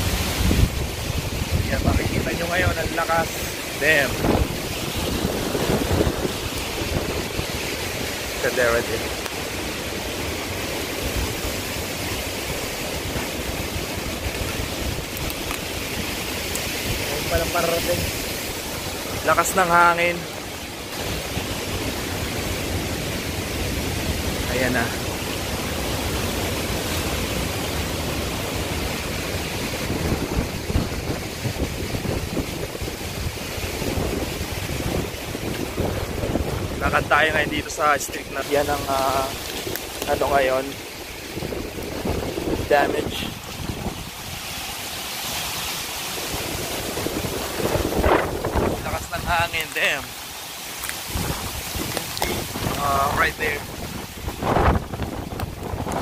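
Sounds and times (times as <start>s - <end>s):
strong wind rushing: 0.0s - 50.2s, 51.0s - 56.0s
wind buffeting microphone: 0.0s - 50.2s, 50.8s - 56.0s.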